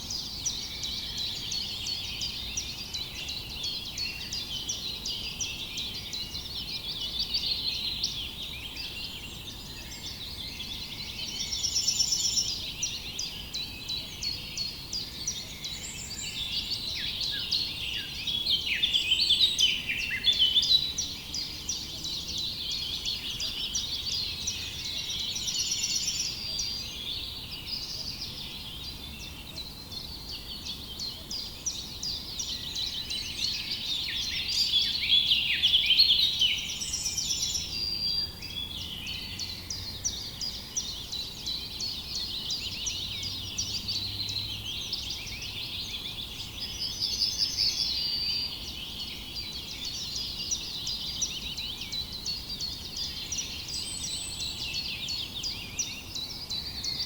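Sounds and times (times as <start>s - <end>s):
songbirds chirping chorus: 0.0s - 57.0s.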